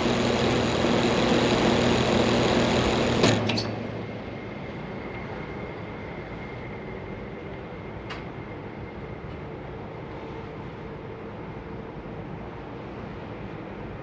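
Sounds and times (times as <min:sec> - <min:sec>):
air conditioner hum and fan: 0:00.0 - 0:14.0.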